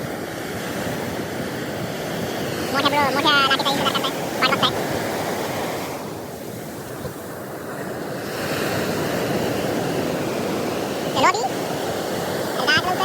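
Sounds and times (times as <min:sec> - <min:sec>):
waves breaking on beach: 0:00.0 - 0:13.0.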